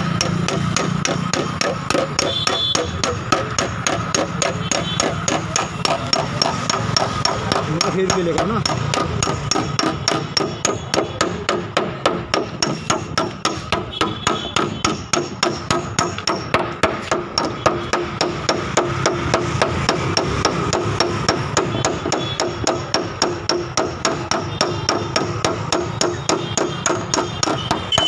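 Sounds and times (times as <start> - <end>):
hammer tapping on steel panel: 0.0 - 28.0.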